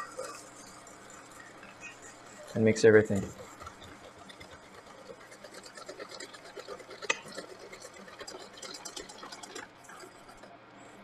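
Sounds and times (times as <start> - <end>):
whisk scraping metal bowl: 0.0 - 10.5.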